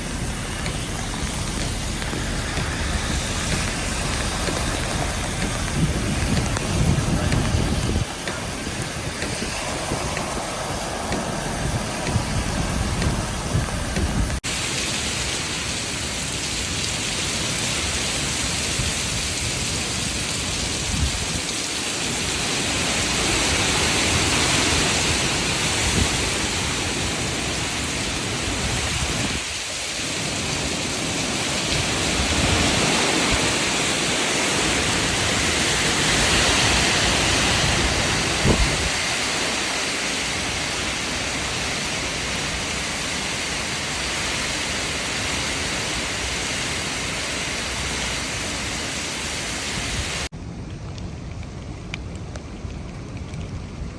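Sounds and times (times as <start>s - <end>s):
wind roar: 0.0s - 14.8s, 15.8s - 53.9s
rain pounding vehicle: 0.0s - 53.9s.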